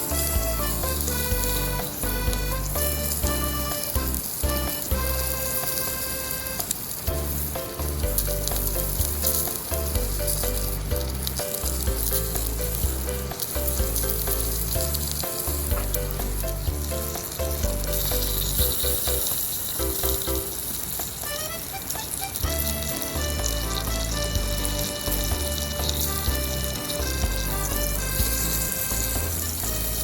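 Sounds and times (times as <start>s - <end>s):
background music with bass: 0.0s - 20.6s, 22.4s - 30.0s
sausages sizzling in a skillet: 0.0s - 30.0s.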